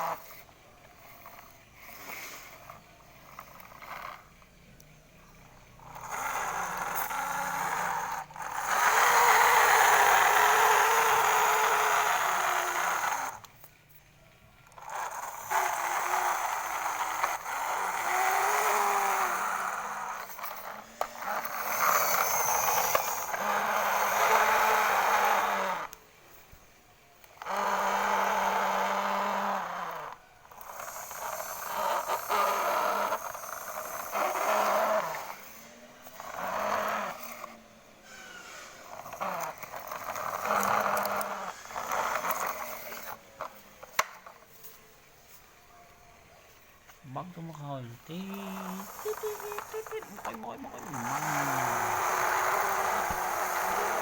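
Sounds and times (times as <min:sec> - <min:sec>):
toy truck sounds: 0:00.0 - 0:54.0.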